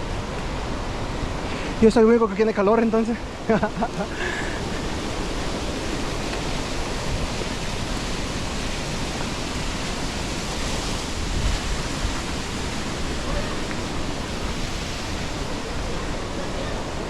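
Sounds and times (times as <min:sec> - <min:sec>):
waterfall and river rushing: 0:00.0 - 0:17.0.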